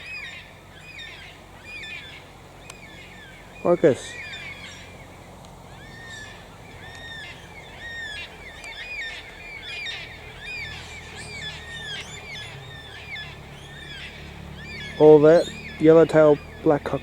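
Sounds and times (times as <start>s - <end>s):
cockatoos calling: 0.0s - 17.0s.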